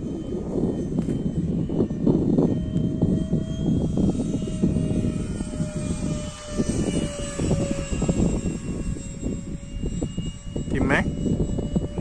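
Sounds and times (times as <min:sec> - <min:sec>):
electric ducted fan whine: 0:00.0 - 0:12.0
wind buffeting microphone: 0:00.0 - 0:12.0.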